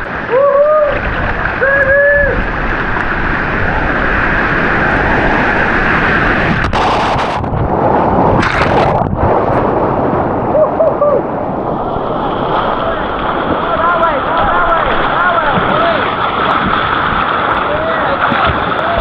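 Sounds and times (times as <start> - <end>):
whitewater roaring: 0.0 - 19.0.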